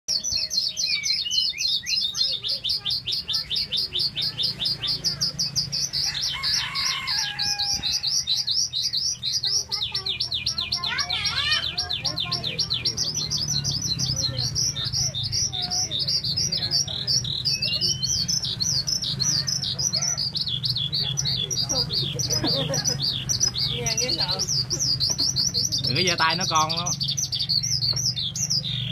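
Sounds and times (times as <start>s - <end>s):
skylark singing: 0.1s - 28.9s.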